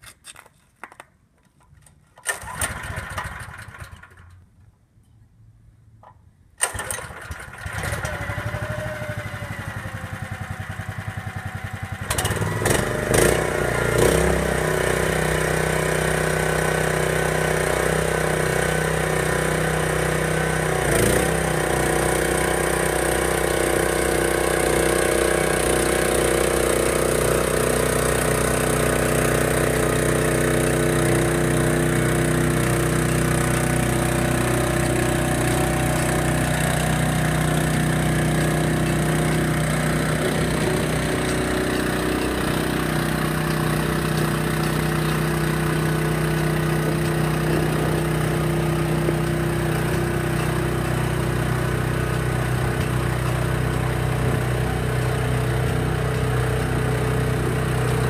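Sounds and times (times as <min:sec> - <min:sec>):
small gas engine running: 0:02.2 - 0:04.4, 0:06.6 - 0:58.0.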